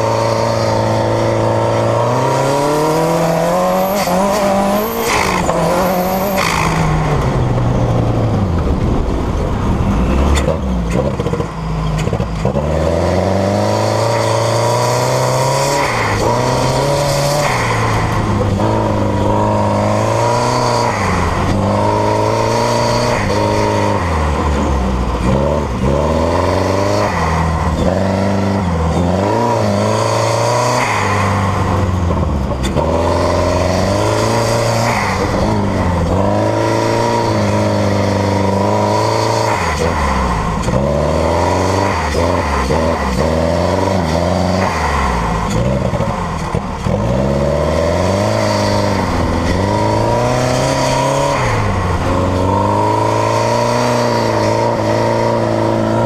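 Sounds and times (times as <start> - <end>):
turbocharged engine revving: 0.0 - 56.0.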